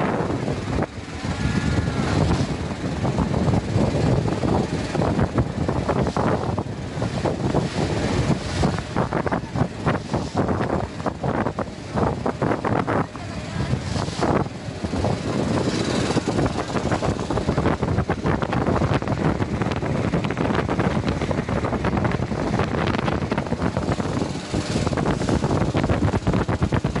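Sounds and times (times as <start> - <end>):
motorboat engine running: 0.0 - 27.0
wind buffeting microphone: 0.0 - 27.0.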